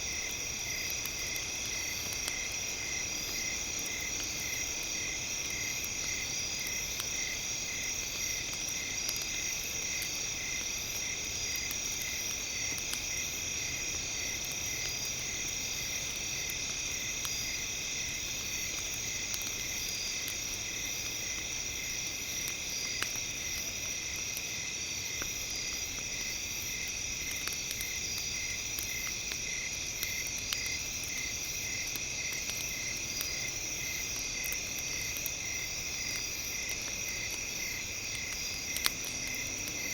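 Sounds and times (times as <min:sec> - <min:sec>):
campfire crackling: 0:00.0 - 0:39.9
crickets chirring: 0:00.0 - 0:39.9.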